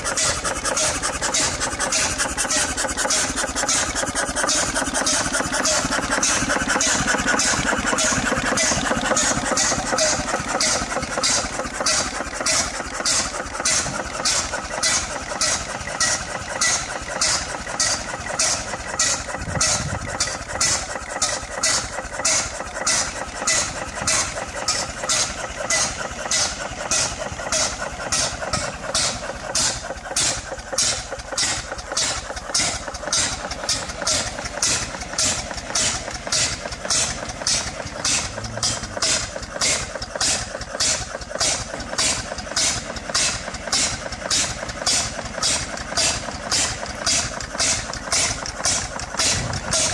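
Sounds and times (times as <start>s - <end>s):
stationary engine running: 0.0s - 49.9s.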